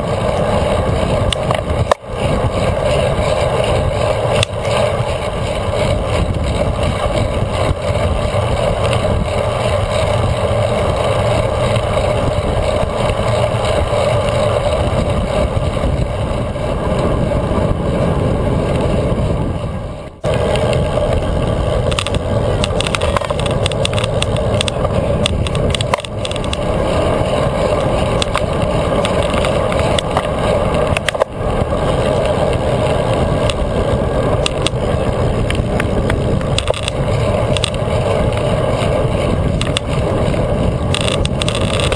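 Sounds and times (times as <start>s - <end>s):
bike tyres rolling on asphalt: 0.0s - 41.9s
wind rushing over camera: 0.0s - 41.9s.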